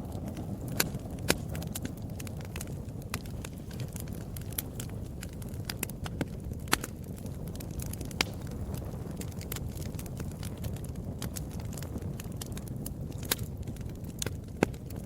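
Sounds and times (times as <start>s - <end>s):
fire crackling and popping: 0.0s - 15.0s
low rush of flames: 0.0s - 15.0s.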